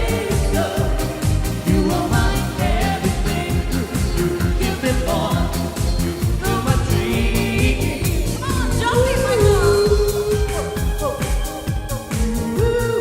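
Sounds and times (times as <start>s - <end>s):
band playing upbeat pop song: 0.0s - 13.0s
person singing: 0.0s - 13.0s.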